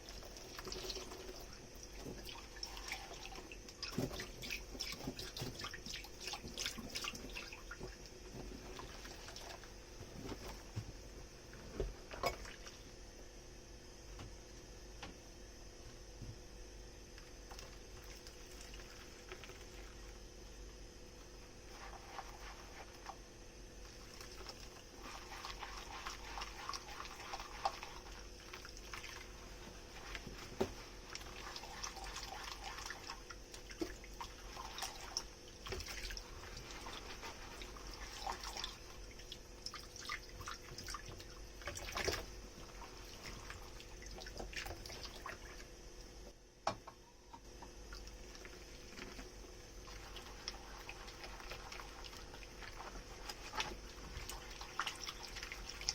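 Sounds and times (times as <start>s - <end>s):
sponge and water sounds: 0.0s - 13.0s, 17.4s - 46.4s, 47.4s - 55.9s.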